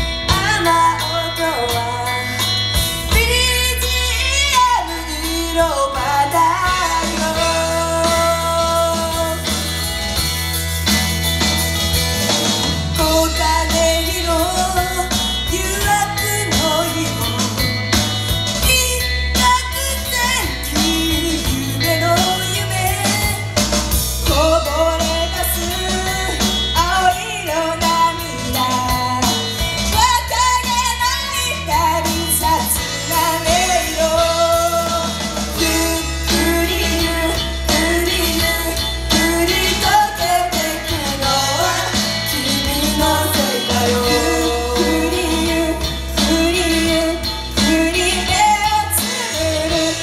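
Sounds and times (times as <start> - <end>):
loud rock backing: 0.0 - 50.0
women singing: 3.1 - 9.7, 13.0 - 17.8, 18.6 - 23.6, 24.2 - 50.0.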